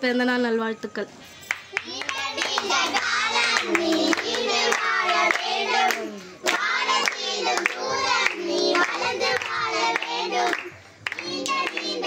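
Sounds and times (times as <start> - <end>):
children clapping: 1.5 - 12.0
children singing: 1.9 - 12.0.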